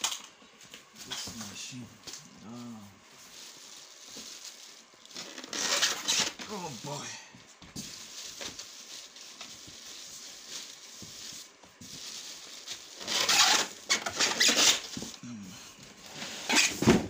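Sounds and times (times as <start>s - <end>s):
cardboard and plastic rustling: 0.0s - 15.2s, 15.8s - 17.0s.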